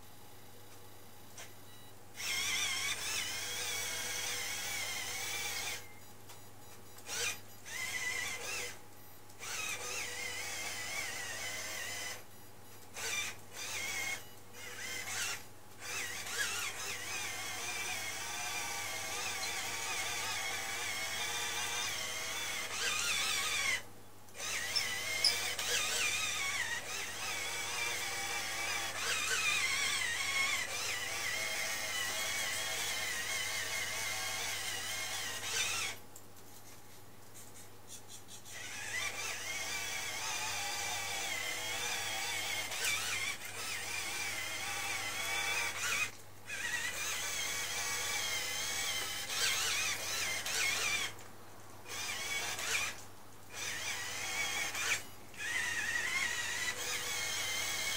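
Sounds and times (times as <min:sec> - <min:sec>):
small electric motors whining: 0:02.2 - 0:08.8, 0:09.4 - 0:36.0, 0:37.9 - 0:51.2, 0:51.8 - 0:57.9.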